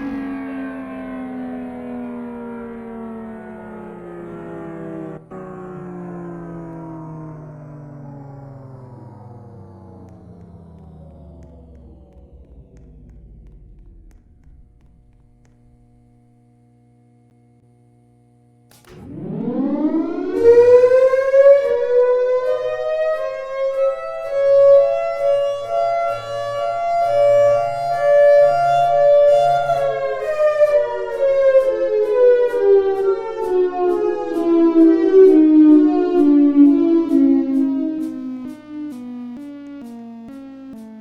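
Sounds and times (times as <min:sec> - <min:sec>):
warning siren winding: 0:04.3 - 0:16.2, 0:18.7 - 0:41.0.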